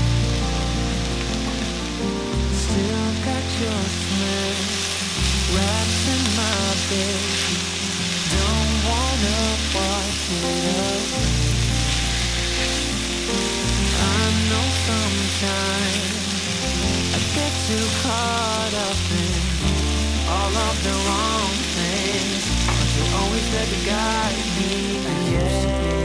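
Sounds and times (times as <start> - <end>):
background music with bass line: 0.0 - 26.0
onions and mushrooms sizzling: 0.0 - 26.0.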